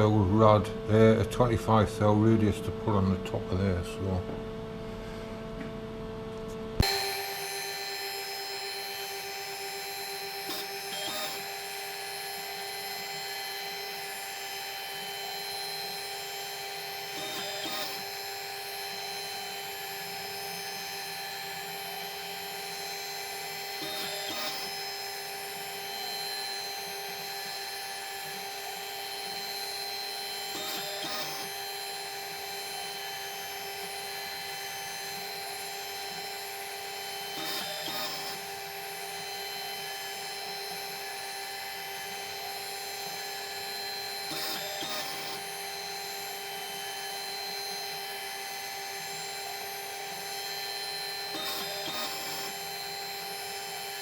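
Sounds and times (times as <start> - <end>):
cutter cutting metal: 6.8 - 54.0
machine tool motor running: 6.8 - 54.0.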